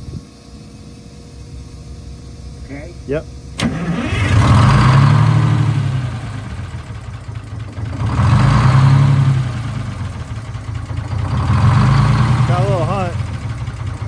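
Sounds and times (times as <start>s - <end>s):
diesel engine hunting: 0.8s - 14.0s.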